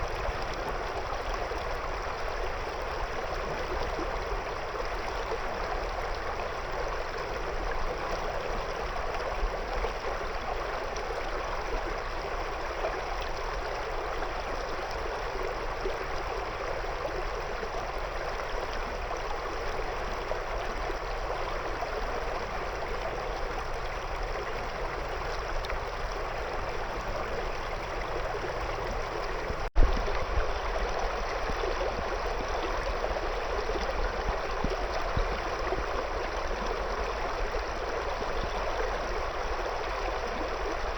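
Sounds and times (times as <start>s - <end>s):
river water flowing over stones: 0.0s - 40.9s.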